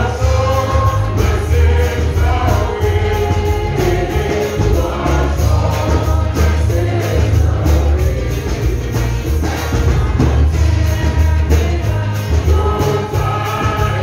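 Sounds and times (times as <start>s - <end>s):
amplified music with heavy bass: 0.0s - 14.0s
people singing into microphones: 0.0s - 14.0s.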